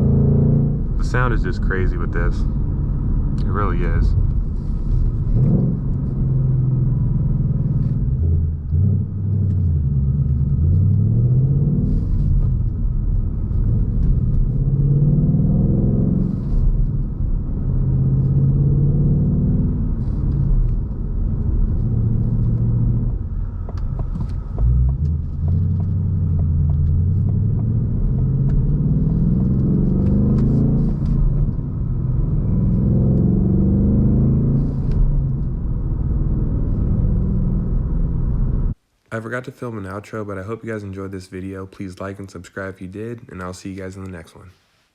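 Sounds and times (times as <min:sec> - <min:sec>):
car engine revving: 0:00.0 - 0:38.8.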